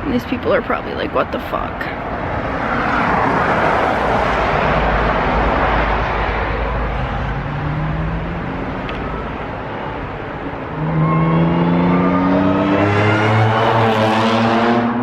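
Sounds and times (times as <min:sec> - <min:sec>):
tyre and road noise: 0:00.0 - 0:15.0
low engine drone: 0:01.6 - 0:14.9.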